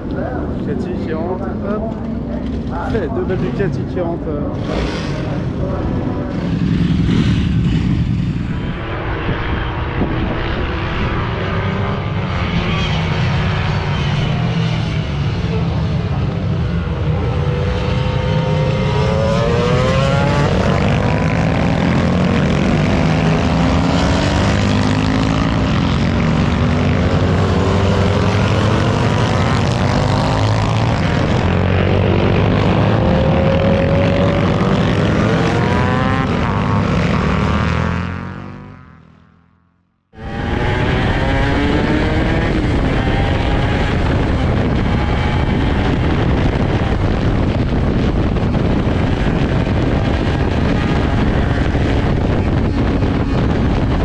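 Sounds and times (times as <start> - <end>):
racing motorcycles accelerating: 0.0 - 54.0.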